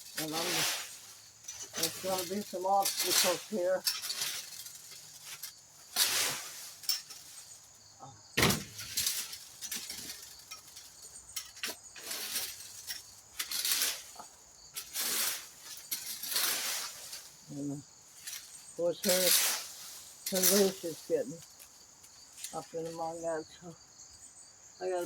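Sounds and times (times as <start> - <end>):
rake dragged through dry leaves: 0.0 - 7.9, 8.6 - 23.6.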